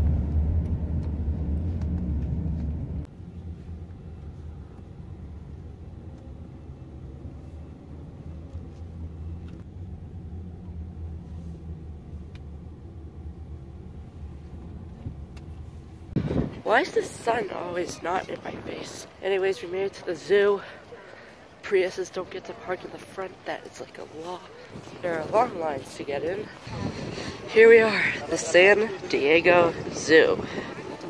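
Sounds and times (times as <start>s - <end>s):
car road rumble: 0.0s - 31.0s.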